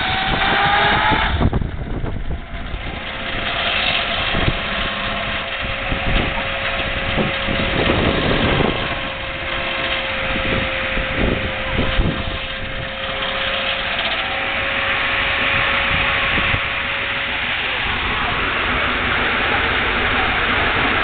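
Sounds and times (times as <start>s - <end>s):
machinery high whine: 0.0s - 21.0s.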